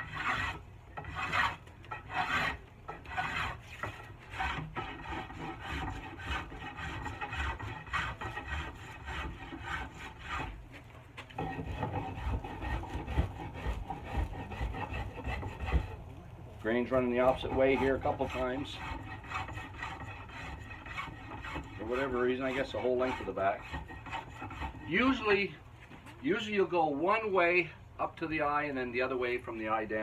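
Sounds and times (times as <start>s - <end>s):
spokeshave shaving wood: 0.0s - 16.0s, 16.6s - 26.2s.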